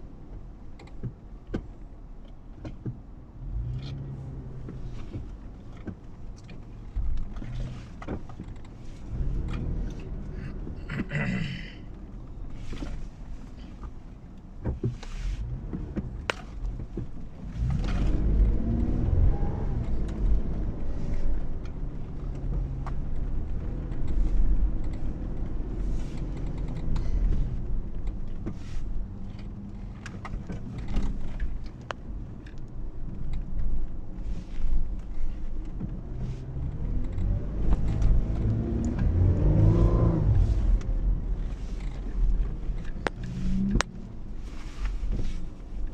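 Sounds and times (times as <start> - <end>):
car engine revving under load: 2.7 - 45.9.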